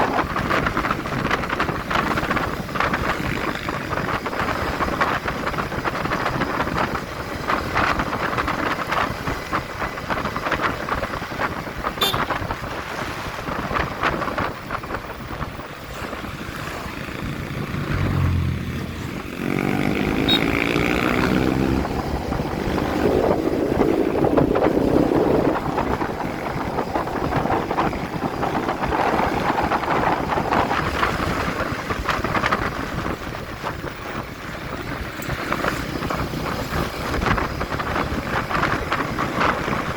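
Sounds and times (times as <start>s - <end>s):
motorcycle road and engine noise: 0.0s - 39.9s
wind buffeting microphone: 0.0s - 39.9s.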